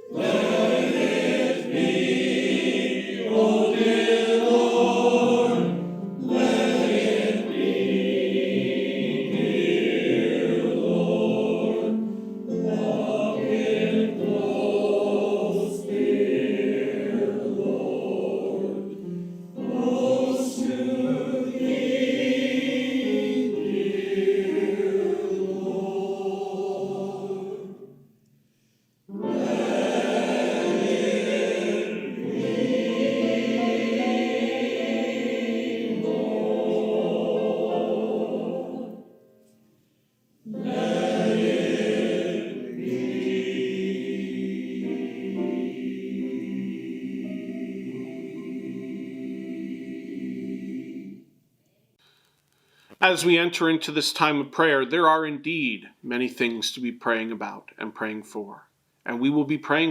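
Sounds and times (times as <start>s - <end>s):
choir singing a hymn: 0.0s - 39.4s, 40.4s - 51.4s.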